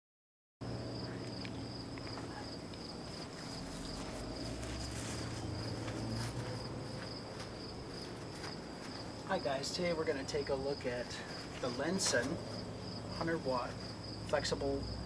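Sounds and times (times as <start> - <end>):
crickets chirping: 0.6 - 15.0
low background hum: 0.6 - 15.0.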